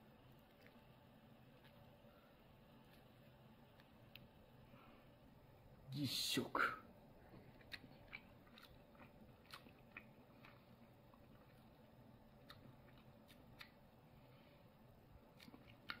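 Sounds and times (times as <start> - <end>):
person chewing food: 0.2 - 4.7, 7.1 - 16.0.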